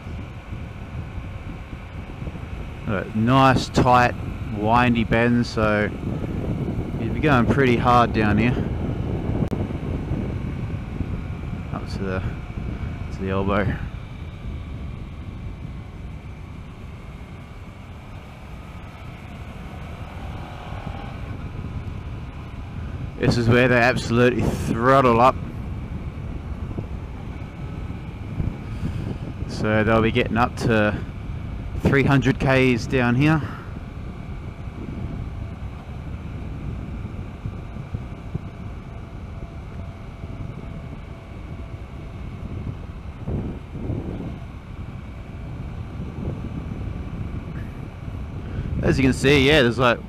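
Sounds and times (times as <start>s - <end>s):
motorcycle engine running: 0.0s - 50.0s
wind rushing on microphone: 0.0s - 50.0s.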